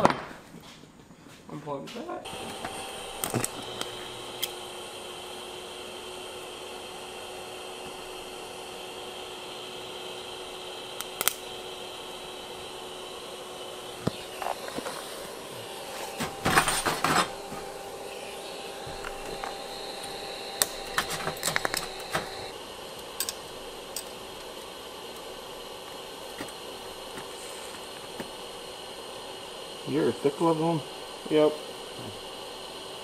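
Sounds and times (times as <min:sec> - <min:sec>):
welder whine and hum: 0:02.2 - 0:33.0.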